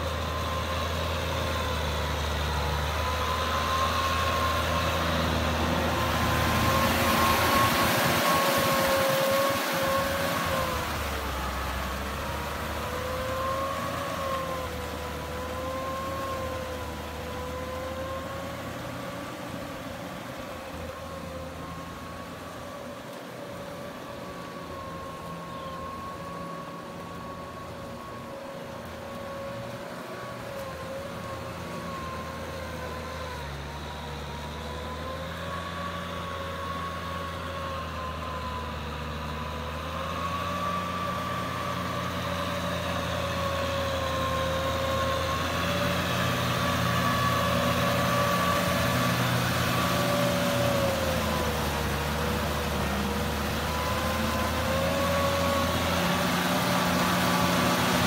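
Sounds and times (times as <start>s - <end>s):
tractor diesel engine under load: 0.0s - 58.0s
wavering whine: 0.0s - 58.0s.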